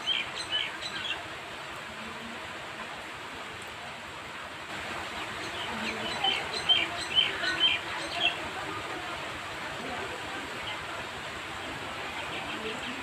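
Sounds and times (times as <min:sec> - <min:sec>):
rain falling on trees: 0:00.0 - 0:13.0.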